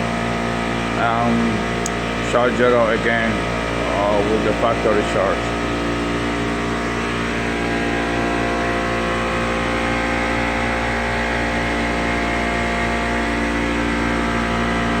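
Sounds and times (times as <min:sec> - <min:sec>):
machinery humming with fixed tones: 0:00.0 - 0:15.0.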